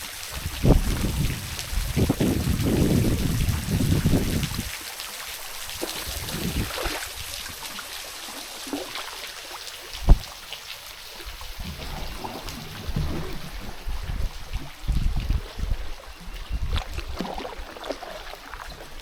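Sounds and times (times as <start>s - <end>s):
river water trickling and splashing: 0.0s - 19.0s.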